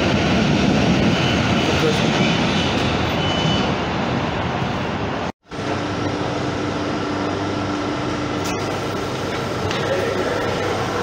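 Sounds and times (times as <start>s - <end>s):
electric train hum: 0.0s - 11.0s
train rumbling: 0.0s - 11.0s.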